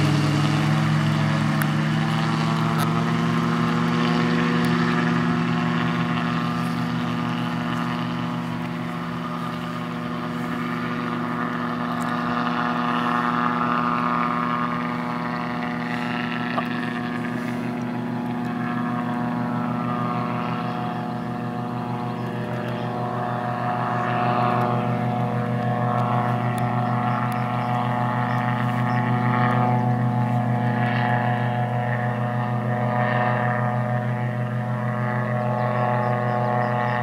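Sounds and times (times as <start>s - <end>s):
aircraft engine and propeller drone: 0.0s - 37.0s.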